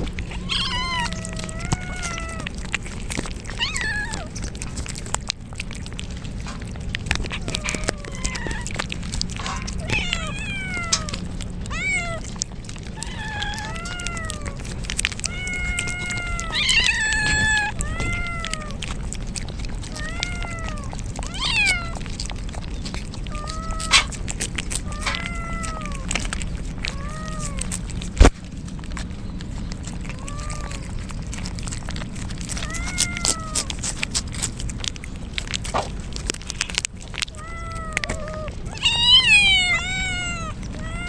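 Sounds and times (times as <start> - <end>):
kittens meowing: 0.2 - 5.2, 7.2 - 28.3, 29.7 - 34.6, 37.2 - 41.0.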